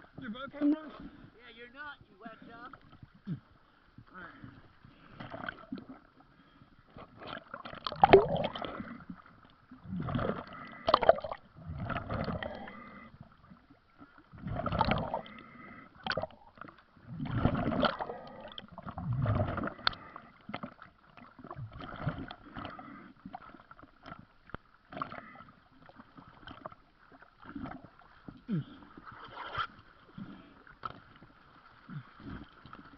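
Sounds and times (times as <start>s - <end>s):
water gurgling and bubbling: 4.3s - 31.0s.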